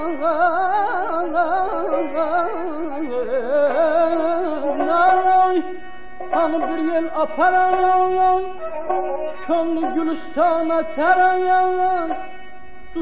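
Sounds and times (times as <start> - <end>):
ornamented melodic music: 0.0 - 13.0.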